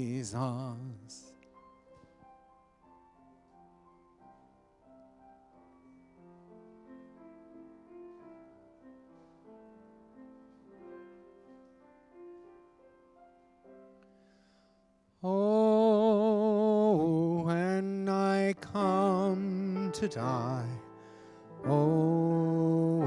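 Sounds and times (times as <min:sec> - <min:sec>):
soft piano chords: 0:00.0 - 0:23.0.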